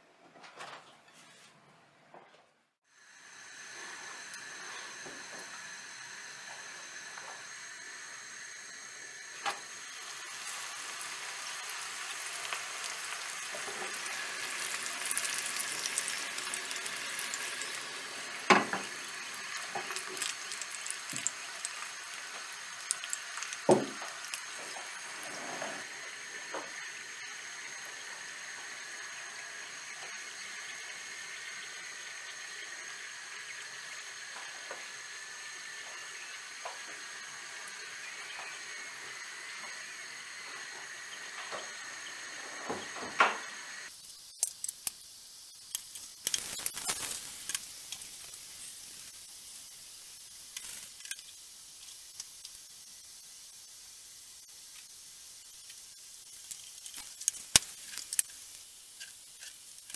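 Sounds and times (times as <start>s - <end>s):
oil hissing and sizzling: 2.8s - 59.9s.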